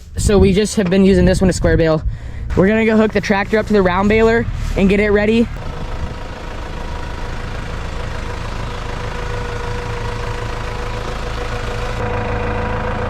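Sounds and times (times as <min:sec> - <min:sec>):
tractor engine running at low speed: 0:00.0 - 0:13.0
steady whine: 0:02.4 - 0:13.0.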